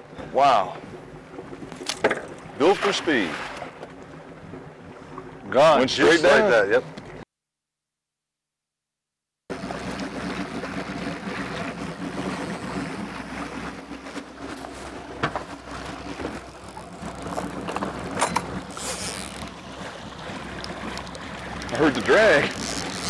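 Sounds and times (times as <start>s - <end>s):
boat engine running: 0.0s - 7.2s, 9.5s - 23.0s
water around hull: 0.0s - 7.2s, 9.5s - 23.0s.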